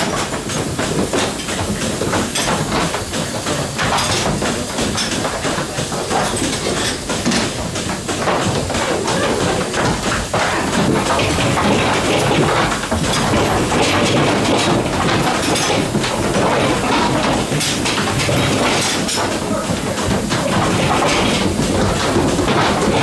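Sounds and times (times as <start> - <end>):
milking equipment clicking: 0.0 - 23.0
milking machine hissing: 0.0 - 23.0.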